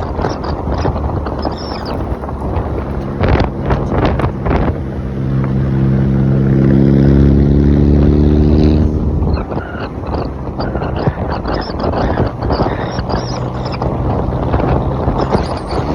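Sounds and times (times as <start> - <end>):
car exhaust droning: 0.0 - 15.9.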